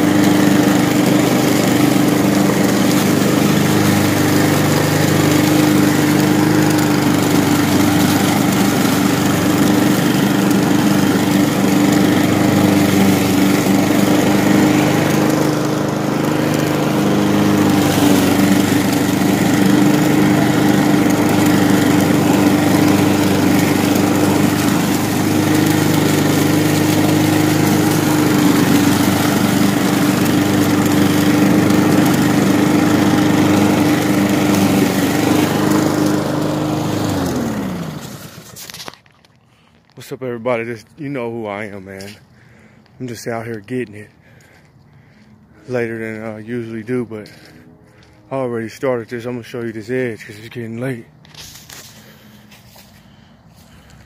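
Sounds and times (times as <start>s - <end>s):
lawn mower cutting grass: 0.0s - 54.0s.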